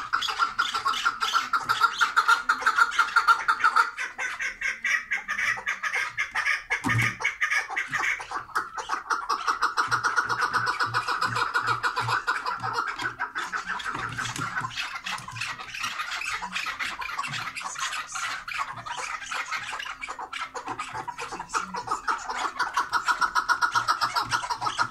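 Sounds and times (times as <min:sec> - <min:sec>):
partridges calling: 0:00.0 - 0:24.9.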